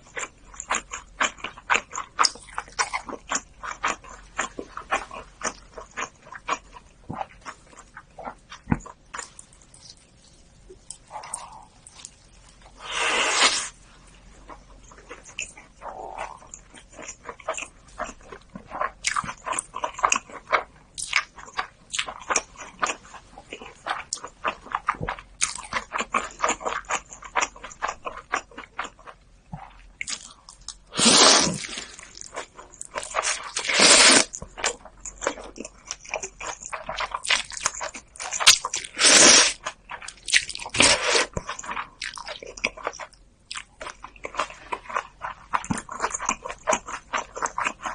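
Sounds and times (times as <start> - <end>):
wet chewing and mouth clicks: 0.0 - 12.8, 14.4 - 47.9.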